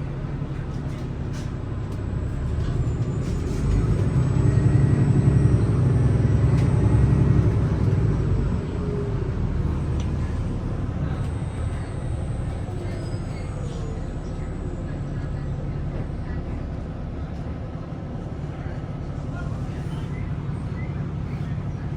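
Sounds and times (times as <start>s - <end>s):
bus diesel engine running: 0.0s - 21.9s.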